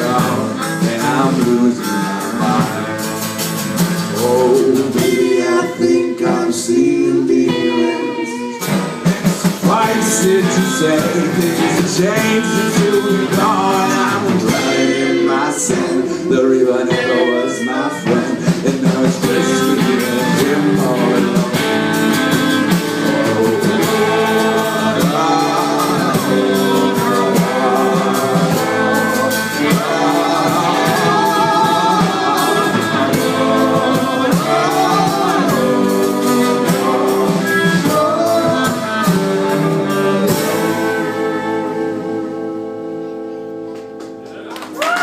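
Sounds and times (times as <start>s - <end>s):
strummed guitar: 0.0s - 44.7s
person singing sliding notes: 4.0s - 43.1s.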